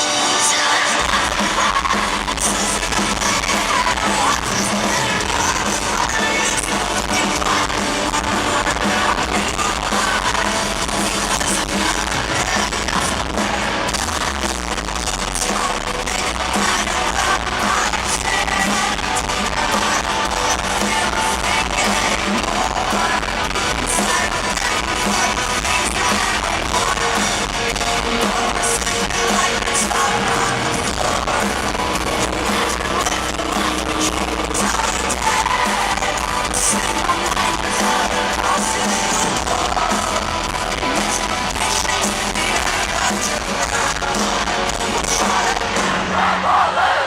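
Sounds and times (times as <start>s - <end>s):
drums: 0.0s - 47.0s
electric guitars: 0.0s - 47.0s
person singing: 0.0s - 47.0s.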